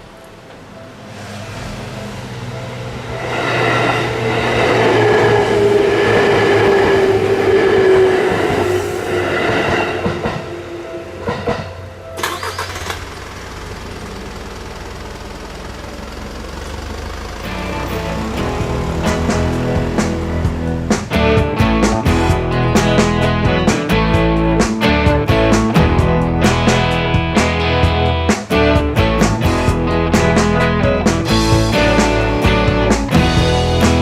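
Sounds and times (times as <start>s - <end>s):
electric train passing: 0.0s - 28.2s.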